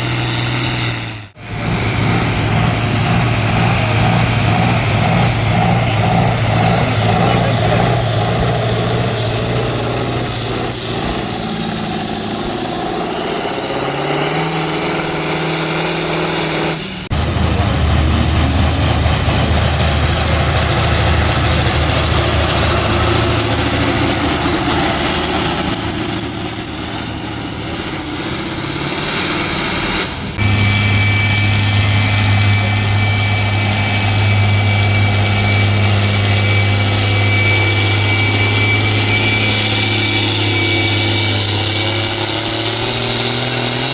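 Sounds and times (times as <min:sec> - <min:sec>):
high whine rising in pitch: 0:00.0 - 0:43.9
tractor diesel engines running: 0:00.0 - 0:43.9.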